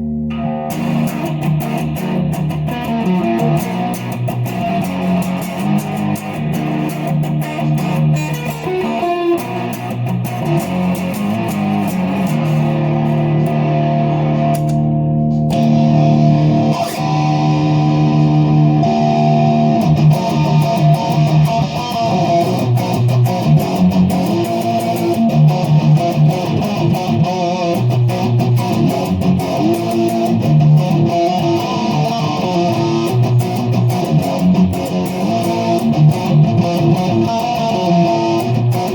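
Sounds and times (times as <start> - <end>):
electric guitar chords and notes: 0.0 - 38.9.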